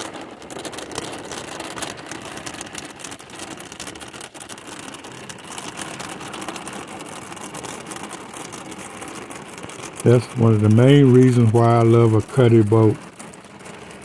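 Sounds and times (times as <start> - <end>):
hard rain drumming on boat roof: 0.0 - 14.0.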